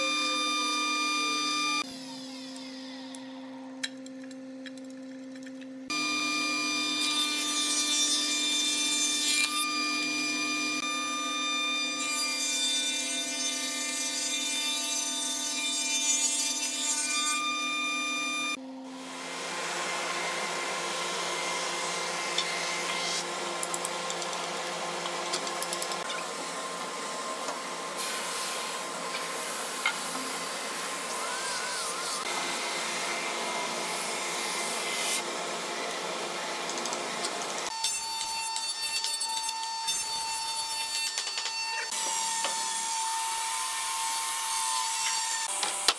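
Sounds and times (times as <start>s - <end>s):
board being cut: 5.9s - 45.9s.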